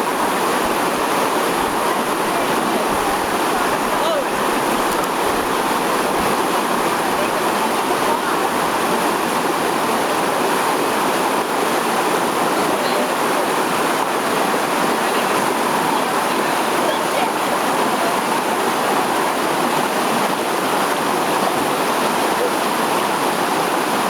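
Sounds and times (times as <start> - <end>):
flowing water rushing: 0.0 - 24.0.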